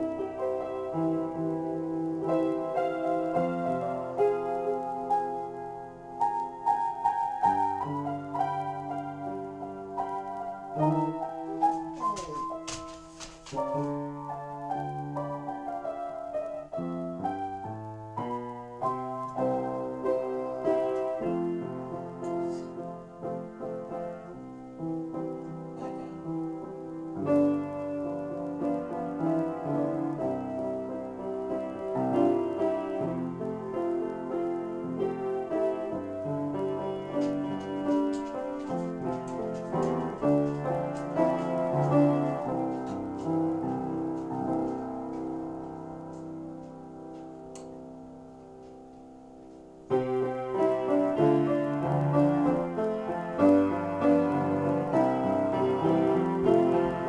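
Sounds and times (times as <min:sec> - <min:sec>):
piano chords and melody: 0:00.0 - 0:57.0.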